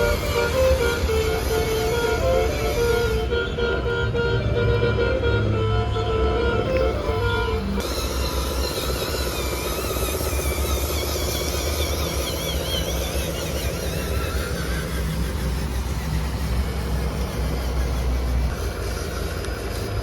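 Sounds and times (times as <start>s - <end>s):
model engine rumbling: 0.0s - 20.0s.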